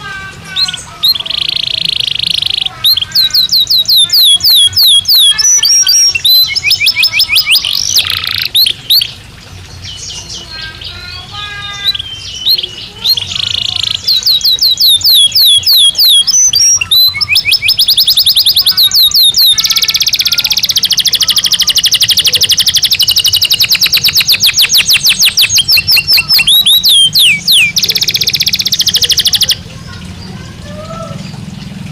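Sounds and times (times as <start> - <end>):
canary singing trills: 0.0 - 31.8.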